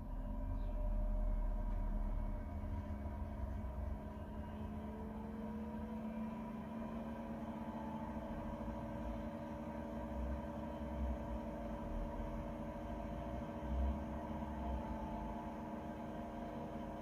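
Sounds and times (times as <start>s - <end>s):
heater fan motor humming: 0.0s - 17.0s.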